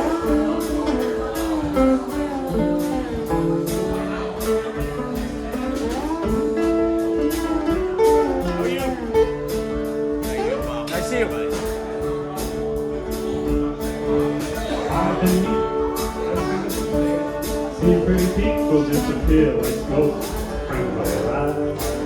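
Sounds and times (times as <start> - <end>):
slide guitar melody: 0.0 - 22.0
strummed acoustic guitar: 0.0 - 22.0.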